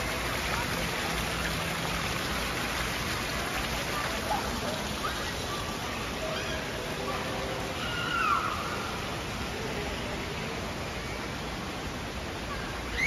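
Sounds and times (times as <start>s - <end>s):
water feature rushing: 0.0s - 13.0s.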